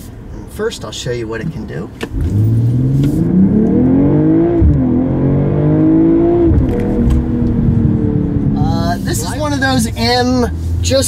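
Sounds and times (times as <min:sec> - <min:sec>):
car engine accelerating hard: 0:02.0 - 0:11.0.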